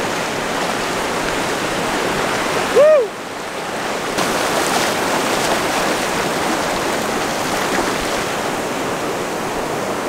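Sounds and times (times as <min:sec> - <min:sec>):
ocean surf breaking: 0:00.0 - 0:10.0.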